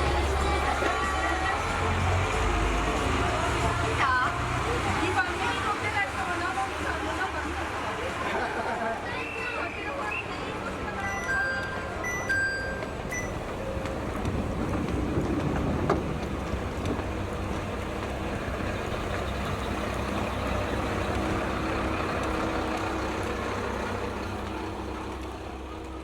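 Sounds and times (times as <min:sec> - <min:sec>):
diesel railcar engine rumble: 0:00.0 - 0:26.0.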